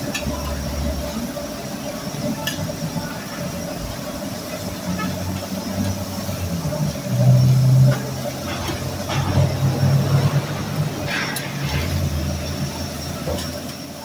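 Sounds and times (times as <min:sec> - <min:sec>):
vehicle engine droning: 0:02.3 - 0:14.0.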